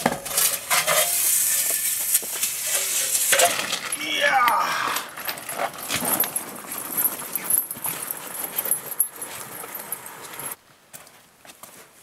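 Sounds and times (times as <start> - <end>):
wheels crunching on gravel: 0.0 - 12.0.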